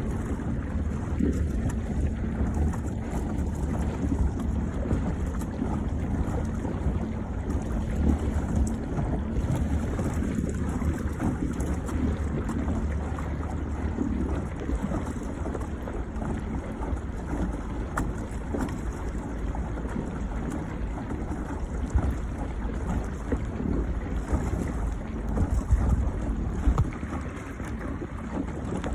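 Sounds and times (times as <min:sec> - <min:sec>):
choppy water washing: 0:00.0 - 0:28.9
wind buffeting microphone: 0:00.0 - 0:28.9.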